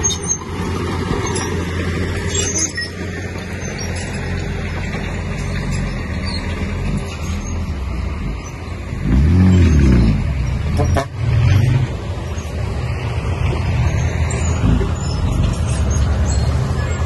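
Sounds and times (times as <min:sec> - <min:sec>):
diesel engine running and revving: 0:00.0 - 0:17.0.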